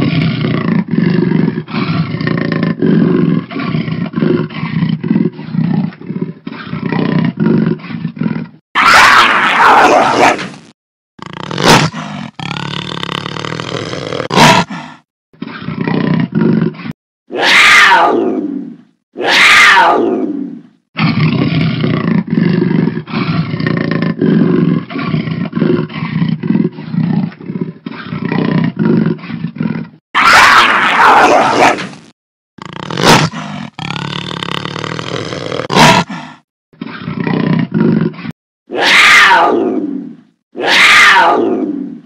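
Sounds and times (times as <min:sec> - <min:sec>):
jaguar roaring: 0:00.0 - 0:10.5, 0:11.2 - 0:32.0, 0:32.6 - 0:42.0.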